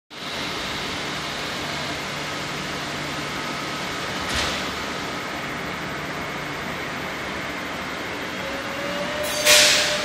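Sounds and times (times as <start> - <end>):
train ventilation hum and hiss: 0.2 - 10.0.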